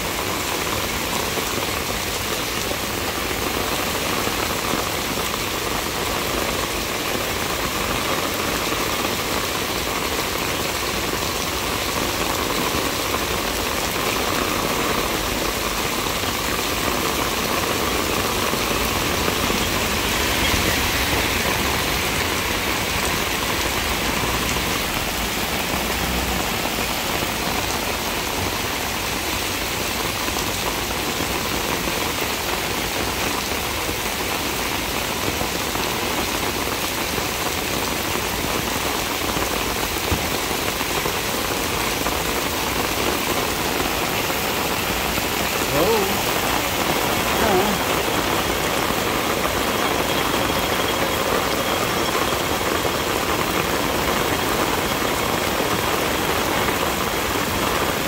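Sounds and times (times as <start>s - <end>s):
heavy rain on road: 0.0s - 58.0s.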